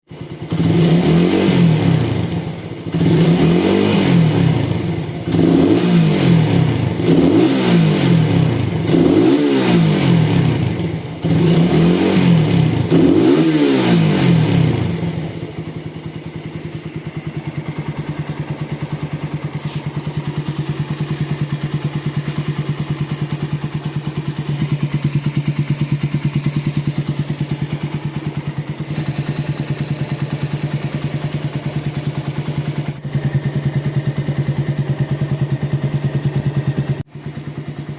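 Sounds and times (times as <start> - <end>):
motorcycle engine revving and idling: 0.0 - 37.9.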